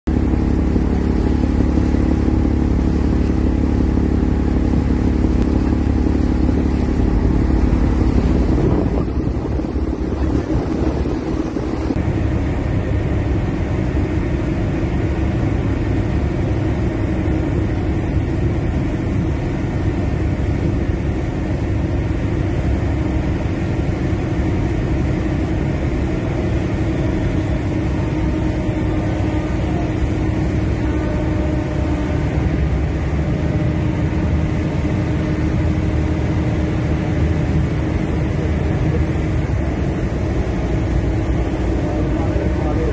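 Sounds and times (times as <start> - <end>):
boat engine running: 0.0 - 42.9
water wash: 0.1 - 42.9.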